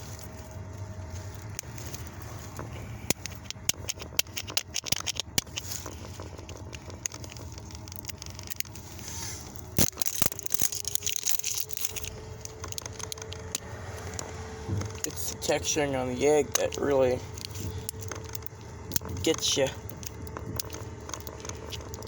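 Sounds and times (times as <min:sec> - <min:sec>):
plastic shrink-wrap crackling: 0:00.0 - 0:22.0.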